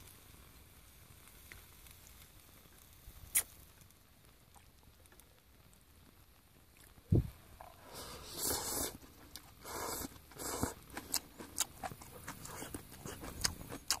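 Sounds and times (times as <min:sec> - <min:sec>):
pot simmering: 0:00.0 - 0:14.0.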